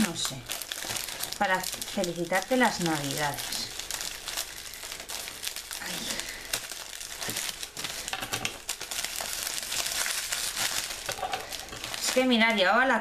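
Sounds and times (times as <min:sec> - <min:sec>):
gift wrap crinkling: 0:00.0 - 0:13.0.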